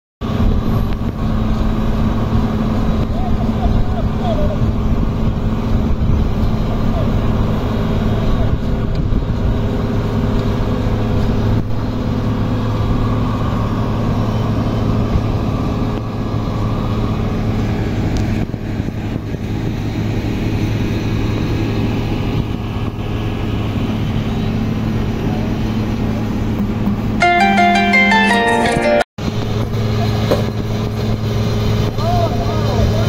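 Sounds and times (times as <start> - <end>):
diesel engine running: 0.2 - 33.0.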